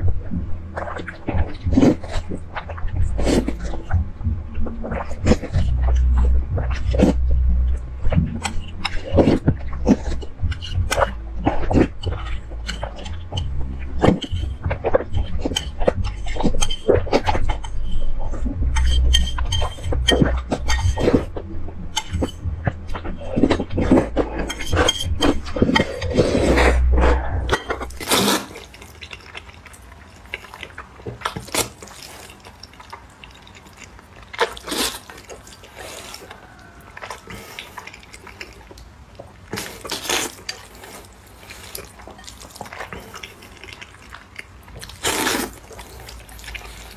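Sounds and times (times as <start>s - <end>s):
slurping and chewing noodles: 0.0s - 46.9s
wet mouth clicks: 8.3s - 46.9s.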